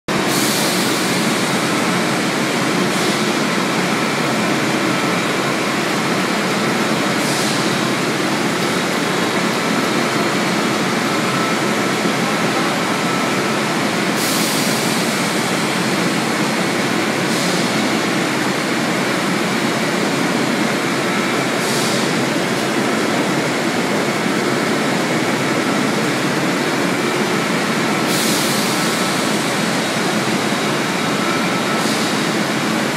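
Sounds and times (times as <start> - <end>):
loud machinery noise: 0.1 - 32.9.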